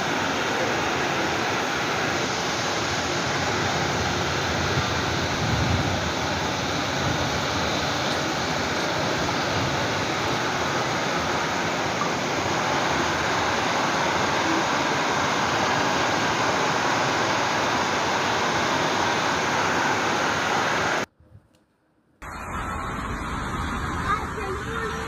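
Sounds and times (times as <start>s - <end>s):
heavy rain pouring: 0.0s - 21.1s.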